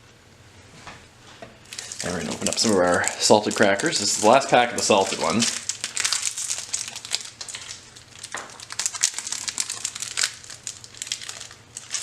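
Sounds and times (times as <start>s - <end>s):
wrapper crinkling: 1.6s - 12.0s.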